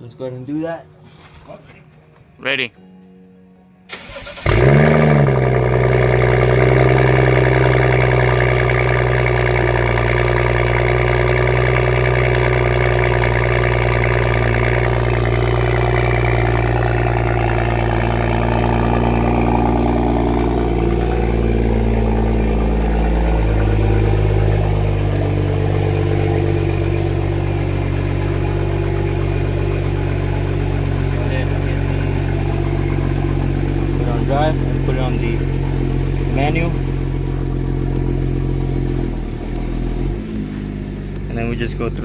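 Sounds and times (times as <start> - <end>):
car engine idling: 3.9 - 42.0.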